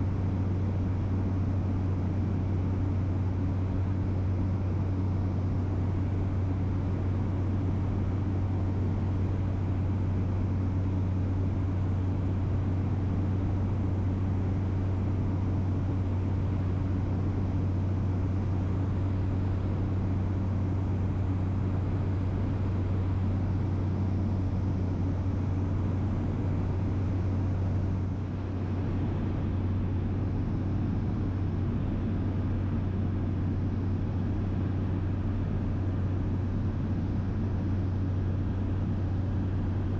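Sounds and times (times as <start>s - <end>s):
small plane engine hum: 0.0s - 39.9s.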